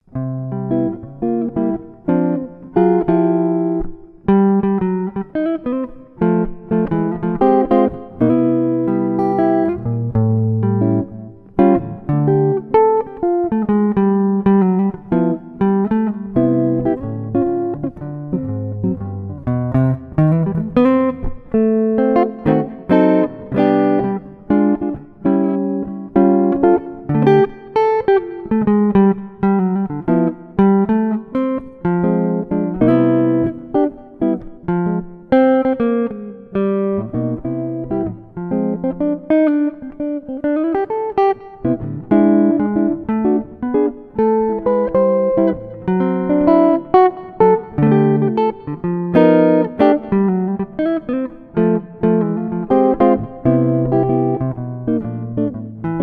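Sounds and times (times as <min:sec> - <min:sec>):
plucked guitar melody: 0:00.0 - 0:56.0.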